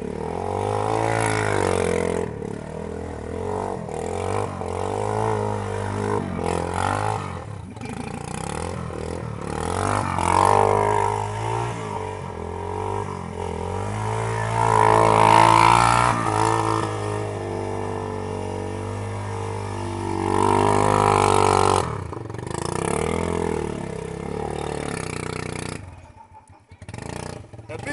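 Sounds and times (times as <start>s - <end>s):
atv engine revving: 0.0s - 27.9s.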